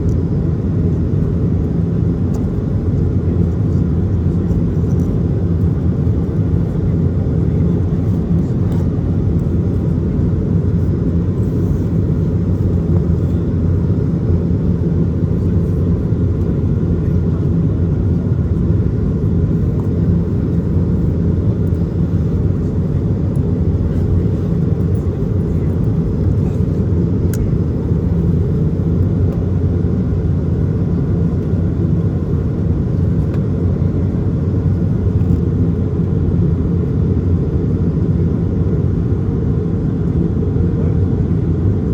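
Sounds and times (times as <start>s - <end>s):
aircraft cabin rumble: 0.0s - 41.9s.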